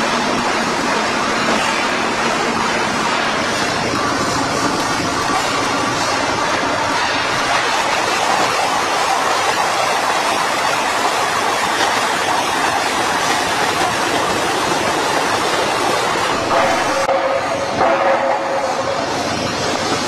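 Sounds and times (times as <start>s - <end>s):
factory machinery running: 0.0s - 20.0s.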